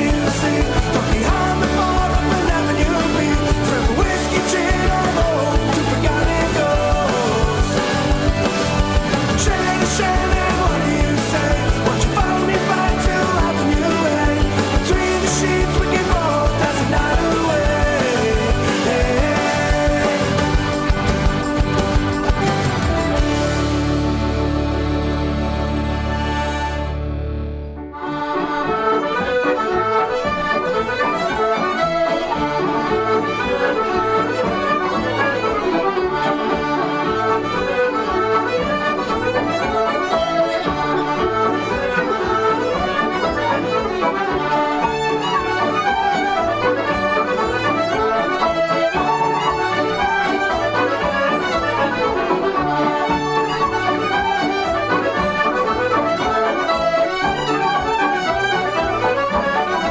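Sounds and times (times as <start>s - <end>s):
irish traditional accordion music: 0.0s - 59.9s.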